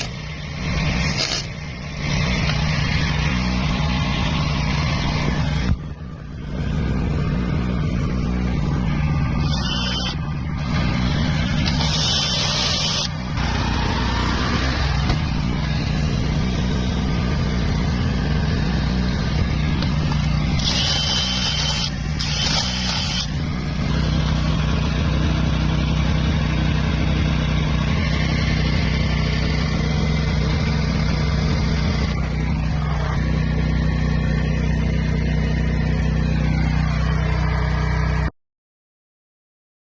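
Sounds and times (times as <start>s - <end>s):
engine running steadily: 0.0s - 38.3s.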